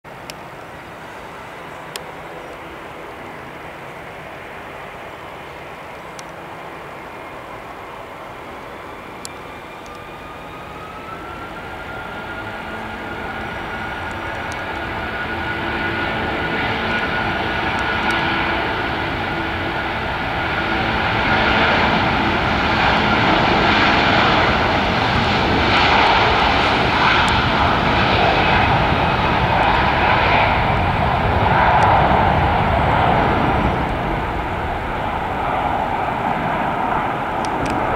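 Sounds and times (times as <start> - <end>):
jet engines at take-off thrust: 0.1 - 37.9
steady whining tones: 0.6 - 37.9.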